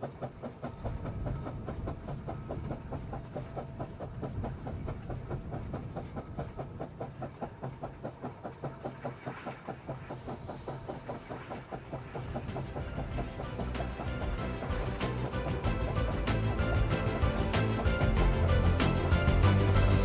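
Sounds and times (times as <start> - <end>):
steady even clicking: 0.0 - 19.7.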